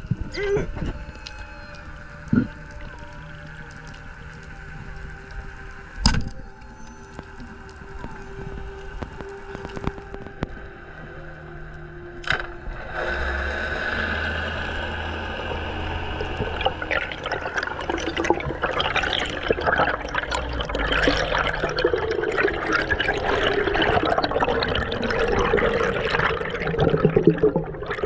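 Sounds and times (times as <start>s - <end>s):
bubbles: 0.0s - 10.4s, 13.0s - 28.0s
crackling and bubbling: 0.0s - 28.0s
underwater rushing water: 0.0s - 28.0s.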